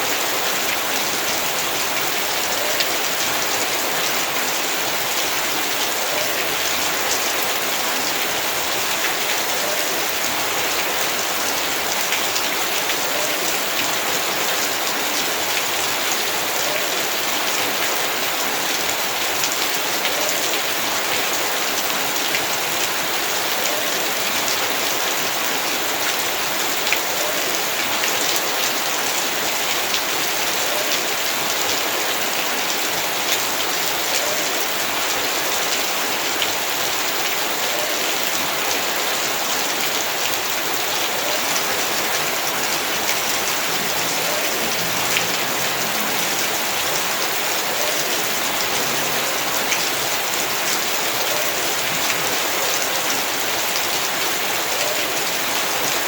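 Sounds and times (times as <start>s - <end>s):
heavy rain hiss: 0.0s - 56.0s
raindrops ticking on hard surfaces: 0.0s - 56.0s.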